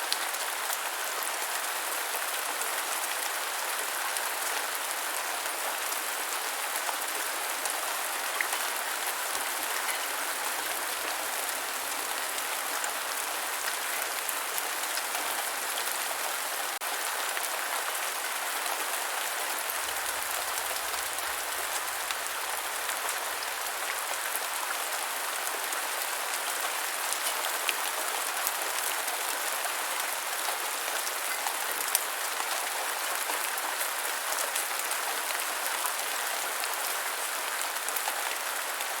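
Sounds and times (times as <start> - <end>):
rain falling on ground: 0.0 - 39.0.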